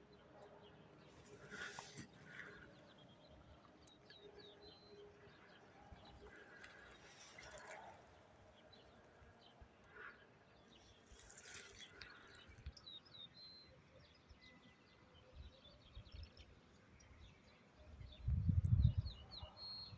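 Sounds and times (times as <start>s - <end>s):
songbirds chirping: 0.0s - 19.9s.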